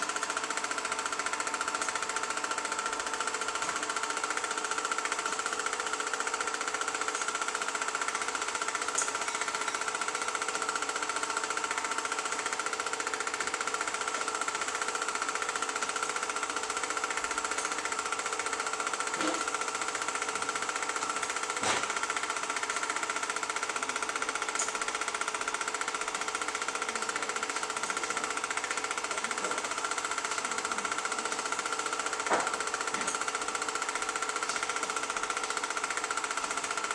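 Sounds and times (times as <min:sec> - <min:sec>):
film projector clattering: 0:00.0 - 0:36.9.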